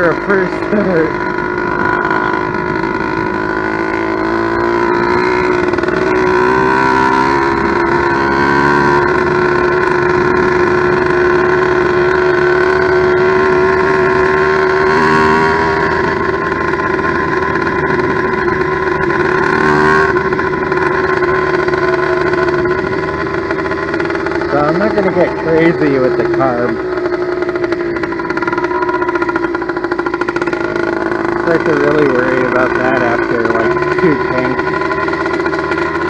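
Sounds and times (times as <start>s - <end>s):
two-stroke engine running steadily: 0.0s - 36.0s.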